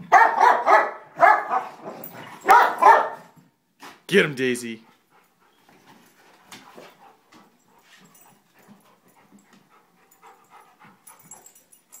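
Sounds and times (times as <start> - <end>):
dogs play-fighting: 0.0 - 4.1, 4.8 - 12.0.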